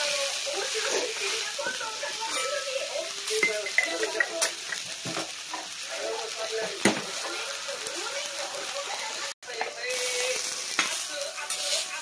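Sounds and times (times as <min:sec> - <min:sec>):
pancake sizzling on griddle: 0:00.0 - 0:12.0.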